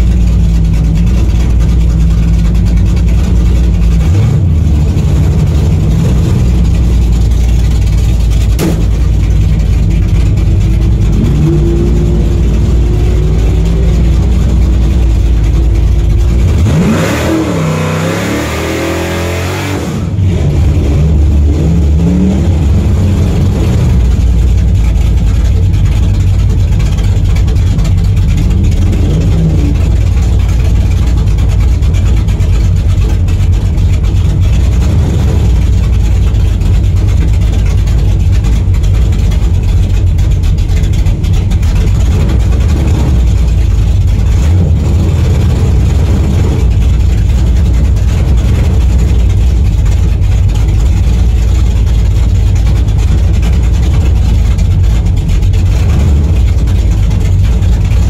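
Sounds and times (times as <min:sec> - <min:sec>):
car engine deep rumble: 0:00.0 - 0:58.0
engine revving up and down: 0:02.9 - 0:25.6, 0:27.3 - 0:37.7, 0:40.8 - 0:58.0.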